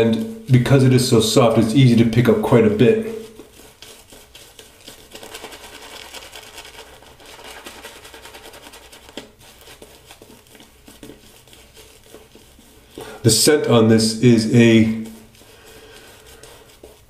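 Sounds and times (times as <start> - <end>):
shaving brush scrubbing lather: 0.5 - 17.0.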